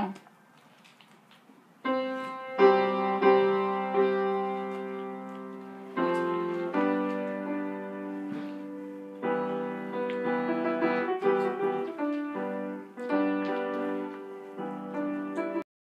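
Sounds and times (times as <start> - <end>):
piano music: 1.8 - 15.7.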